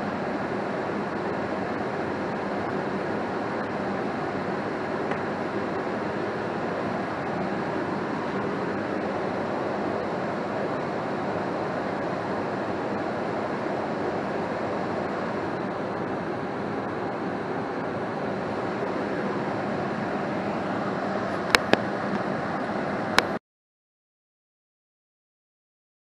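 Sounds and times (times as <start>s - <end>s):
furnace blower rushing air: 0.0s - 23.4s.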